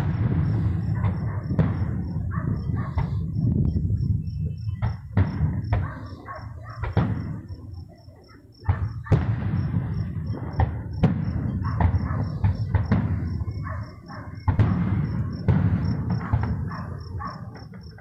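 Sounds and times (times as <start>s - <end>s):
crickets chirping: 0.0s - 18.0s
fireworks bangs and booms: 0.0s - 18.0s.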